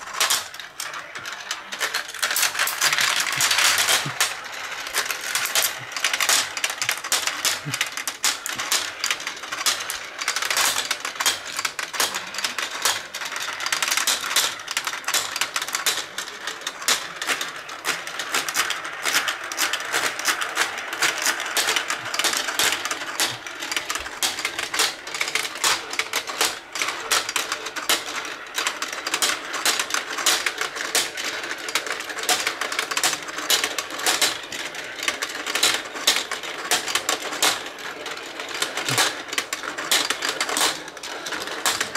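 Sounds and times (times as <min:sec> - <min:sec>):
marbles rattling on plastic track: 0:00.0 - 0:41.9.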